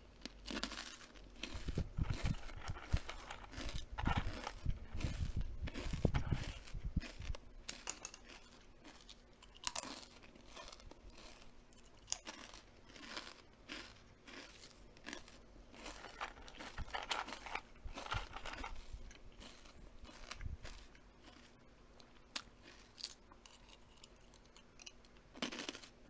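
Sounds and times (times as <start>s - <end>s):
crunchy chewing: 0.0s - 26.0s.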